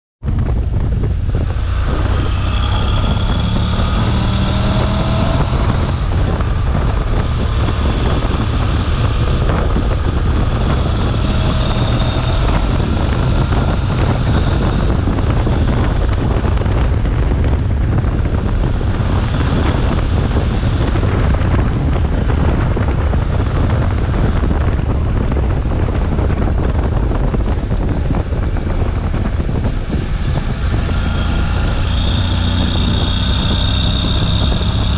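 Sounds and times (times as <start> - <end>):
motorcycle engine drone: 0.2 - 34.9
wind rumble on microphone: 0.2 - 34.9.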